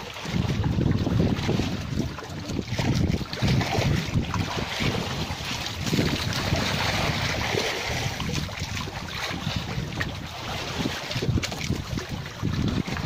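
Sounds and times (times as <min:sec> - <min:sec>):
water splashing along hull: 0:00.0 - 0:13.0
wind buffeting microphone: 0:00.0 - 0:13.0.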